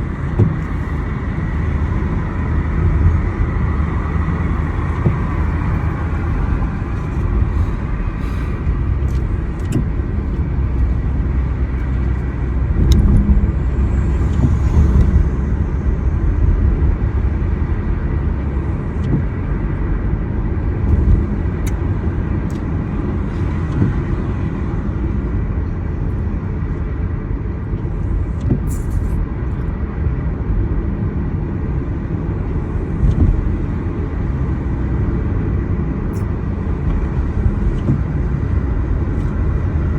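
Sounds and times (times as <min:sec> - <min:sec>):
car rumbling on road: 0:00.0 - 0:39.9.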